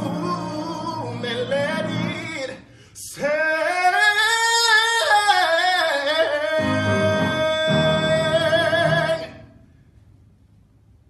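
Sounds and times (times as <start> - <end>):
man singing long note: 0.0 - 9.6.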